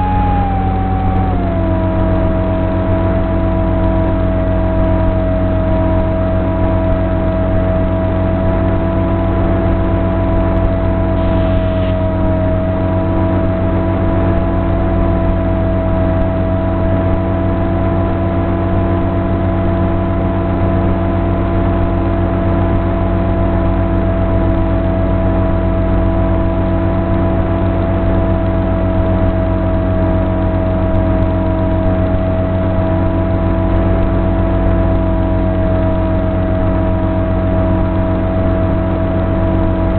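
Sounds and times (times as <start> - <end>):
electric motor propeller whine: 0.0 - 39.9.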